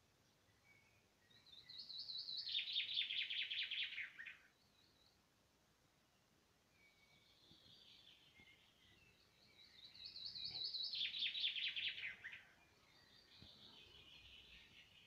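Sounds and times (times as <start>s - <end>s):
faint bird song: 0.0s - 15.0s
chaffinch singing: 0.5s - 5.2s, 6.8s - 15.0s.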